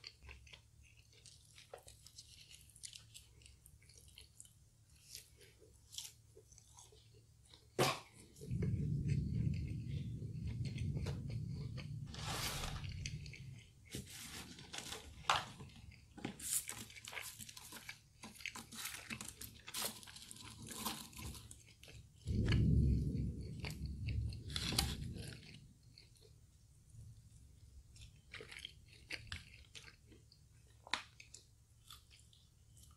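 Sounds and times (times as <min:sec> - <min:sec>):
chewing crispy fried food: 0:00.0 - 0:32.9.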